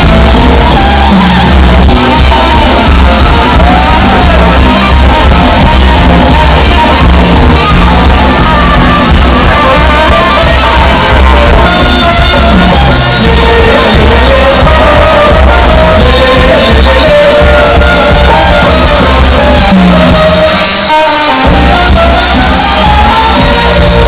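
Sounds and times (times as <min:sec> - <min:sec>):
crowd shouting along: 0:00.0 - 0:19.6
bass line: 0:00.0 - 0:24.0
drums: 0:00.0 - 0:24.0
live band music over loudspeakers: 0:00.0 - 0:24.0
person singing: 0:00.0 - 0:24.0.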